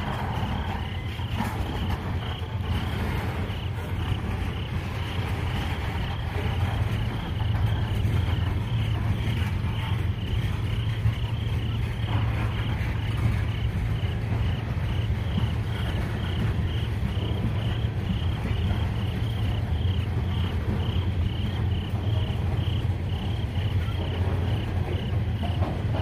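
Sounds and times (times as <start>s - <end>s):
insects chirping: 0.0s - 26.0s
train wheels rumbling on rails: 0.0s - 26.0s.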